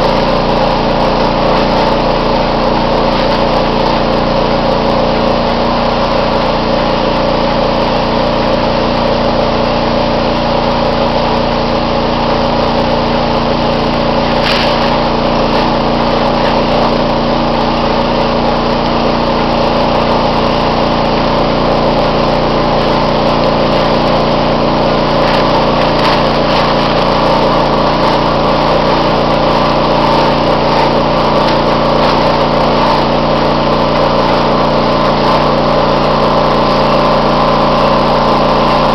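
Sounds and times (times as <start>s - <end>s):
dust blower droning: 0.0s - 38.9s.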